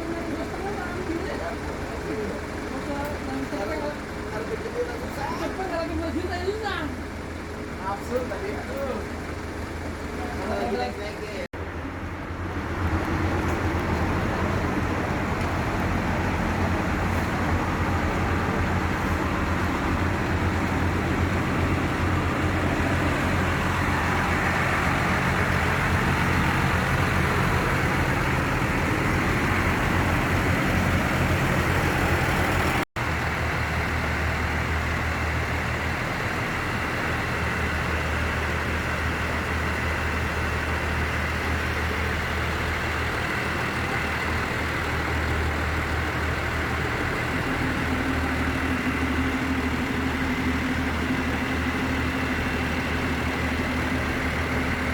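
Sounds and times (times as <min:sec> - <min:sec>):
bus engine running: 0:00.0 - 0:54.9
road and traffic noise: 0:00.0 - 0:54.9.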